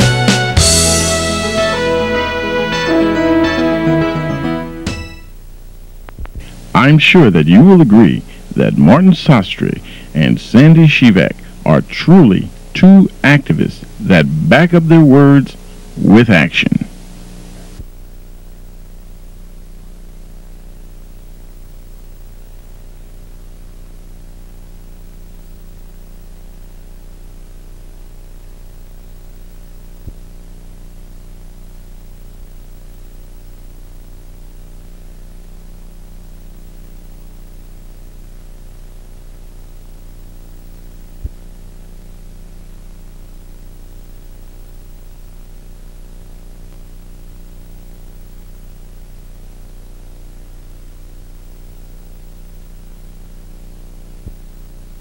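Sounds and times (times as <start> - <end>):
electrical hum: 0.0 - 55.0
tape hiss: 0.0 - 55.0.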